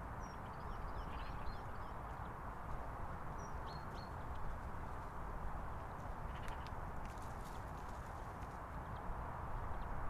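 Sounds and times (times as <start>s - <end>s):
steady outdoor hiss: 0.0s - 10.0s
small birds chirping: 0.1s - 10.0s.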